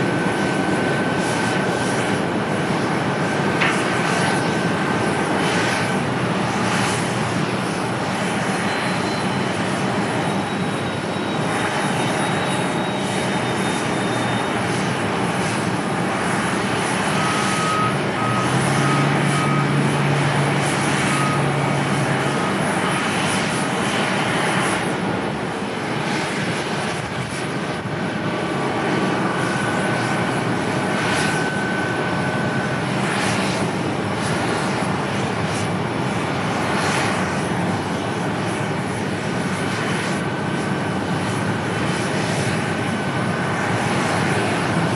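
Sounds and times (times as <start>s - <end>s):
airliner engines rushing: 0.0s - 44.9s.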